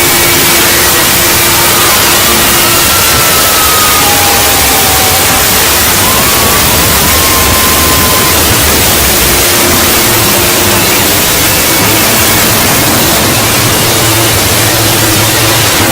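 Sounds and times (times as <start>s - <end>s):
faint steady tones: 0.0s - 15.9s
loud static hiss: 0.0s - 15.9s.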